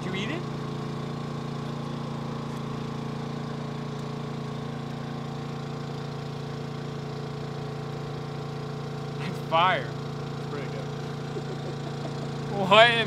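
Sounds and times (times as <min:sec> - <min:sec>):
generator engine hum: 0:00.0 - 0:13.0.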